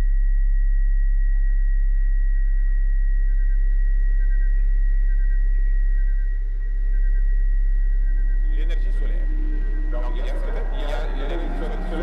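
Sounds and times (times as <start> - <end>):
high-pitched whine: 0.0 - 12.0
low electrical hum: 0.0 - 12.0.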